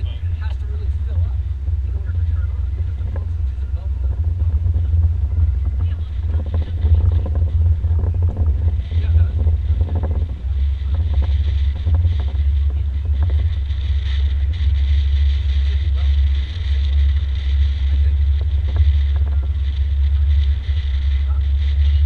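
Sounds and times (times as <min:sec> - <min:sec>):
boat engine rumble: 0:00.0 - 0:22.0
hiss of wind and water: 0:00.0 - 0:22.0
wind buffeting microphone: 0:00.0 - 0:22.0.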